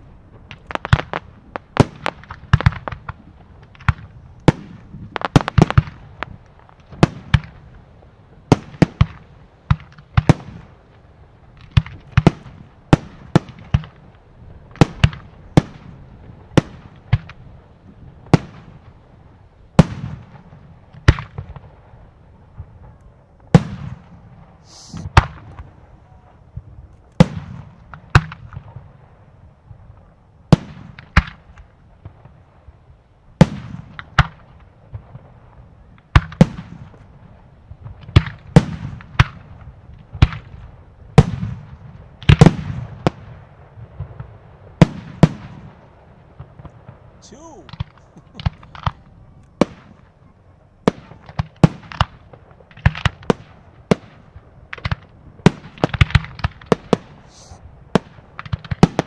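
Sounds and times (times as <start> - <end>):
fireworks bursting with bangs: 0.0 - 59.0
rumble after fireworks: 0.0 - 59.0.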